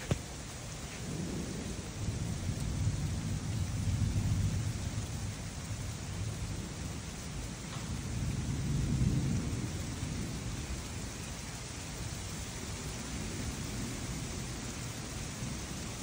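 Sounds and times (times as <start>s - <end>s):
low roll of thunder: 0.0s - 16.0s
steady rain falling: 0.0s - 16.0s.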